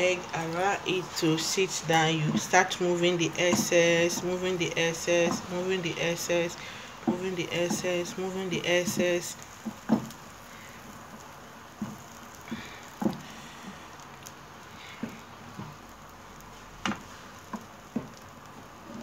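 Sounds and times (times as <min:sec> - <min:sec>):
egg sizzling in a pan: 0:00.0 - 0:19.0.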